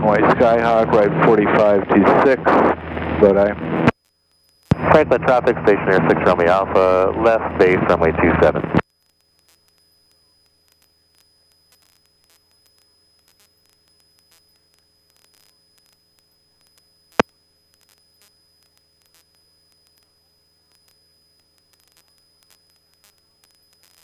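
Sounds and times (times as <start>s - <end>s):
low steady hum: 0.0s - 23.8s
radio hiss and crackle: 0.0s - 24.0s.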